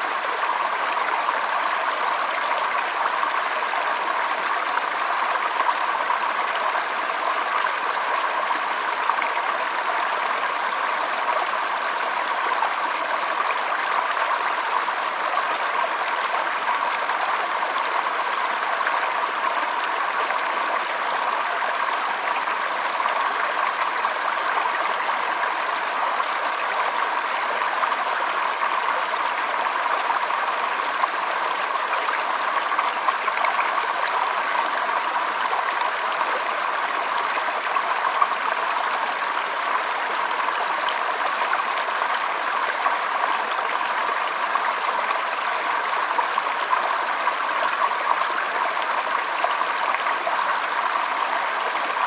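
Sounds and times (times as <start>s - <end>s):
stream water babbling: 0.0s - 52.0s.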